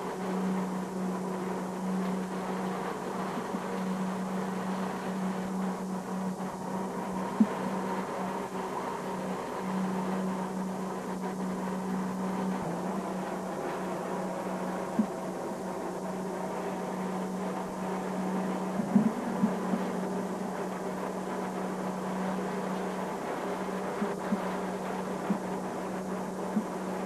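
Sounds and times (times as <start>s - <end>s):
tramway car hum and rushing: 0.0s - 27.0s.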